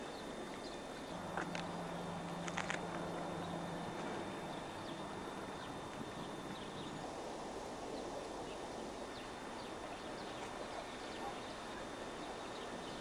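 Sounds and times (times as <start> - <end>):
forest ambience: 0.0 - 13.0.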